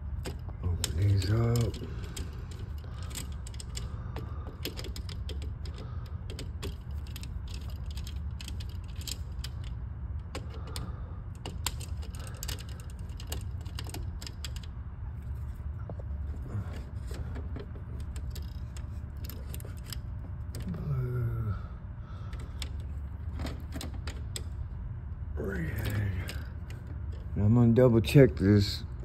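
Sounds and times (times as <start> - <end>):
clicks and rattles of hardware: 0.0 - 20.8, 22.3 - 24.7, 25.5 - 27.5
steady low hum: 0.0 - 29.0.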